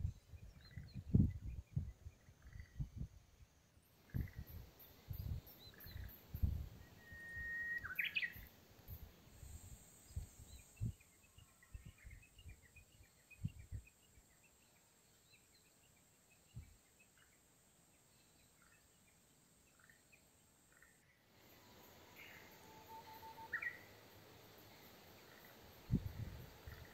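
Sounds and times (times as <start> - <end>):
small birds chirping: 0.0 - 3.2, 3.9 - 26.9.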